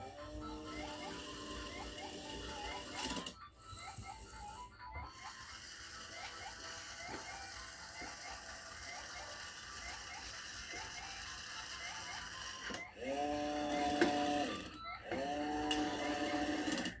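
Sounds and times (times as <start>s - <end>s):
motor whirring: 0.0s - 17.0s.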